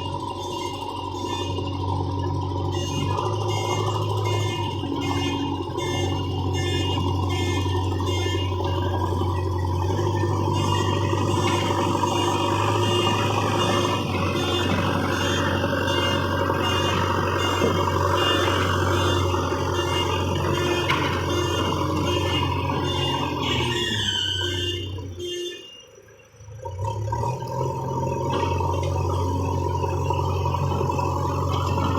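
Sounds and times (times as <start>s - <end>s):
electronic reversing beeps: 0.0s - 26.6s
earthmoving machine diesel engine: 0.0s - 31.9s.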